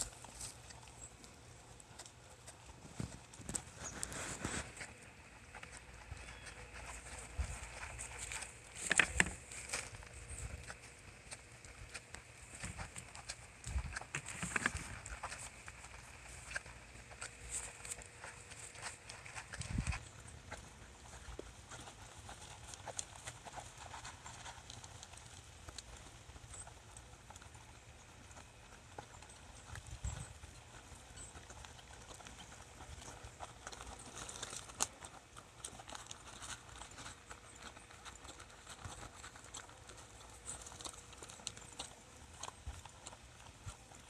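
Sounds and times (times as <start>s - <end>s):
horses' hooves clip-clopping: 0.0s - 44.0s.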